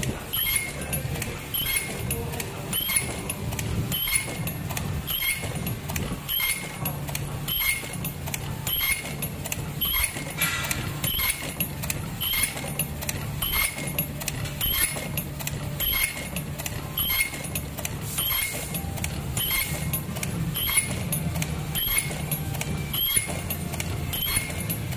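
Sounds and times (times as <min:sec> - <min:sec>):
machine chirps and clicks: 0:00.0 - 0:24.9.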